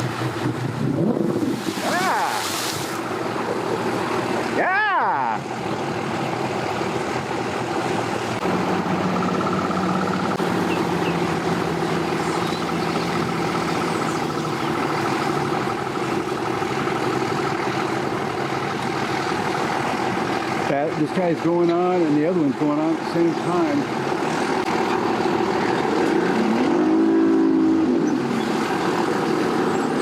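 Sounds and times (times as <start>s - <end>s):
vehicle and boat engines running: 0.0s - 30.0s.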